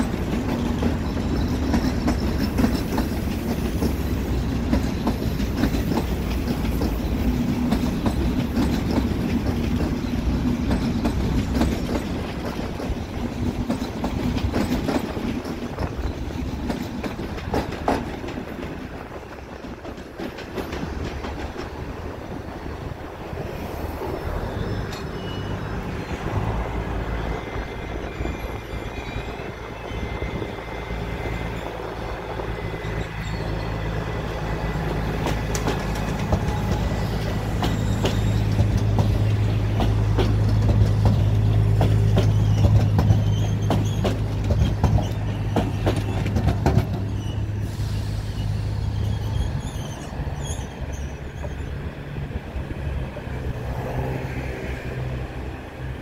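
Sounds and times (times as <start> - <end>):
train wheels clattering over rail joints: 0.0 - 23.4, 24.0 - 55.5
diesel locomotive engine drone: 0.0 - 56.0.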